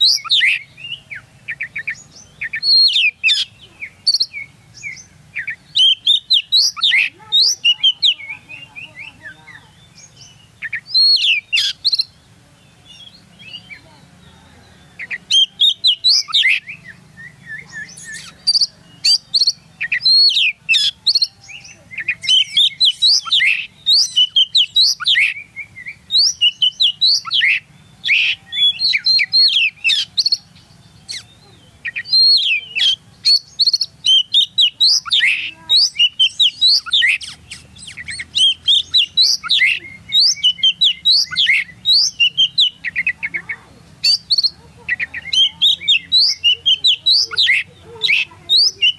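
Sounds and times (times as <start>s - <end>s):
bird singing whistles and chirps: 0.0s - 48.9s.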